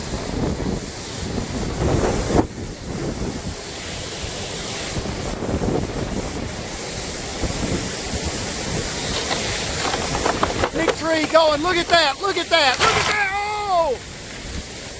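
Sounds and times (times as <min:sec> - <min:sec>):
wind buffeting microphone: 0:00.0 - 0:14.9
wind rushing through trees: 0:00.0 - 0:14.9.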